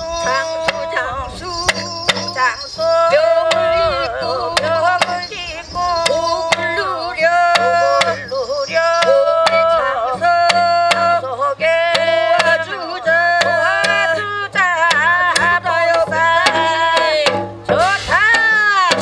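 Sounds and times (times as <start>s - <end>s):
barrel drum beating: 0.0s - 19.0s
shawm melody: 0.0s - 19.0s.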